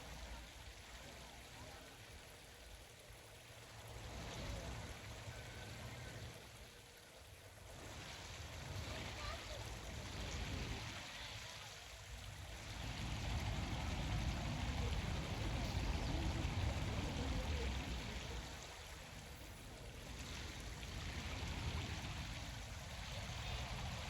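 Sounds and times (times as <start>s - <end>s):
rushing noise like running water: 0.0s - 24.0s.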